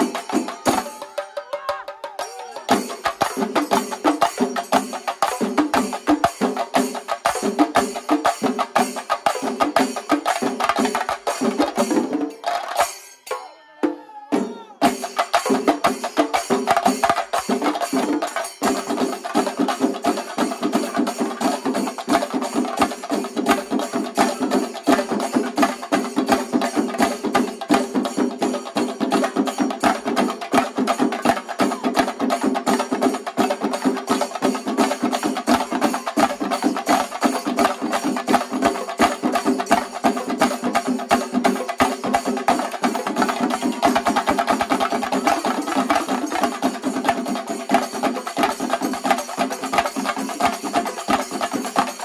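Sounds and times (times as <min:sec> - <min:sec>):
fast drumming with sticks: 0:00.0 - 0:13.0, 0:14.4 - 0:52.0.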